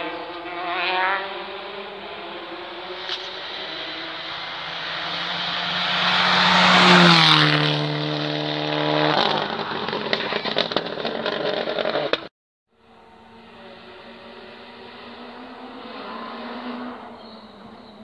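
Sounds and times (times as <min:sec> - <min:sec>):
rally car driving past: 0:00.0 - 0:11.3, 0:12.9 - 0:18.0.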